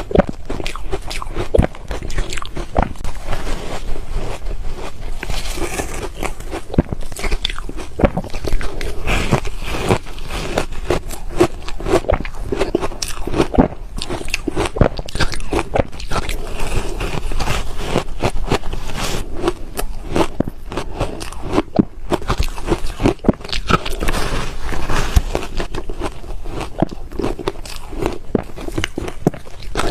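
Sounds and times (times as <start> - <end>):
ice crunching between teeth: 0.0 - 29.9.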